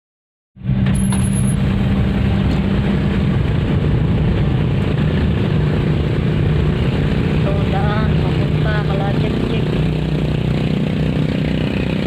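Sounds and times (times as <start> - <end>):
car engine hum: 0.6 - 12.0
road noise inside car: 0.6 - 12.0.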